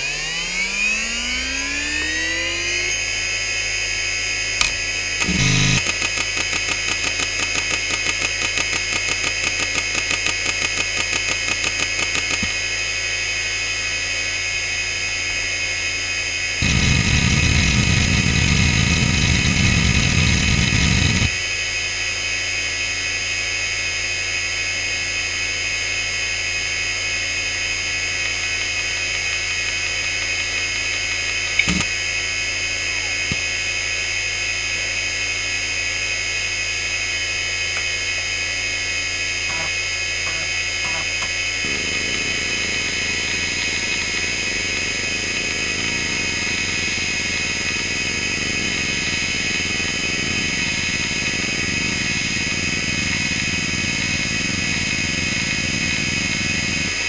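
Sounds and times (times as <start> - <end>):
hard drive high whine: 0.0 - 57.0.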